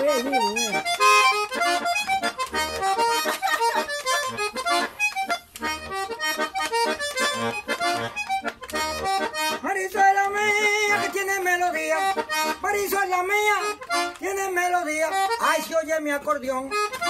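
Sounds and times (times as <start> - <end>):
button accordion melody: 0.0 - 17.0.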